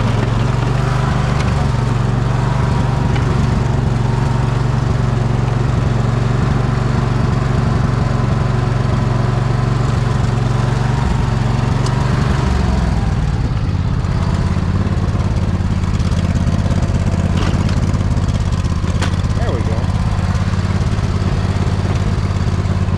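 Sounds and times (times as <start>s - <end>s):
riding mower engine under load: 0.0s - 22.9s.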